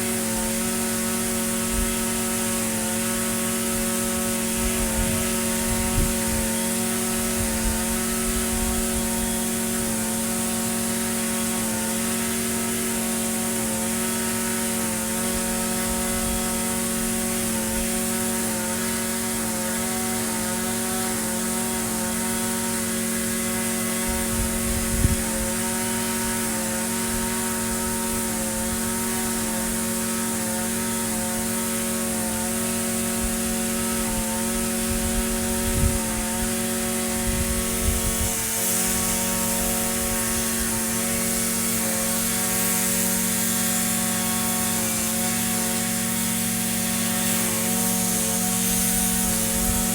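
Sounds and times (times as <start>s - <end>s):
string trimmer engine running: 0.0s - 49.9s.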